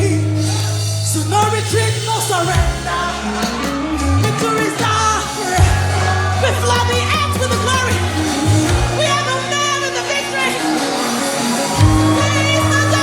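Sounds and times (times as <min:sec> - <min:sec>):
person singing: 0:00.0 - 0:13.0
sustained bass notes: 0:00.0 - 0:13.0.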